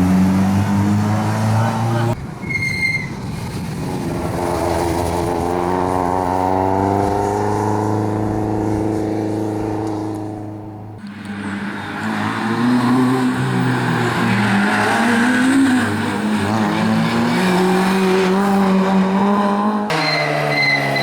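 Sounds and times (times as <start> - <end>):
rally car passing at speed: 3.3 - 21.0.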